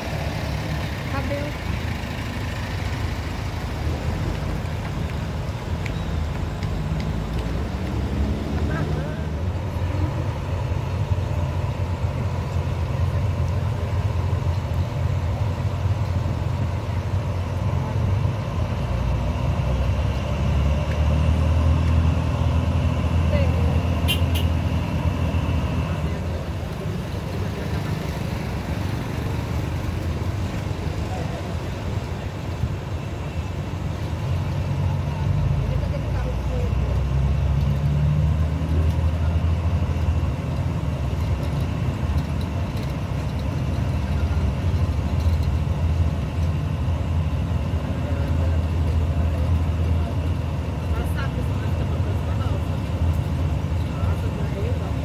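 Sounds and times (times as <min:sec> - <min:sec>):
heavy engines idling: 0:00.0 - 0:55.0.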